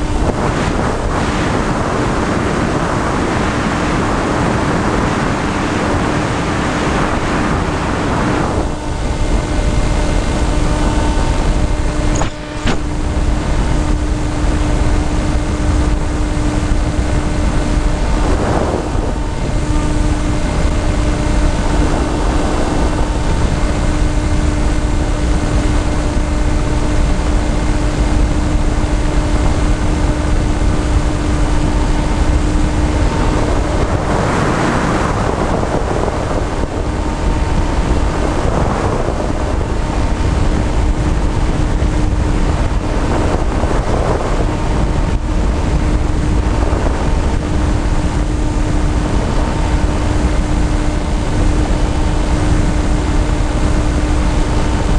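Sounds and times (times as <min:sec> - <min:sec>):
motor and propeller hum: 0:00.0 - 0:54.9
wind rushing over microphone: 0:00.0 - 0:54.9.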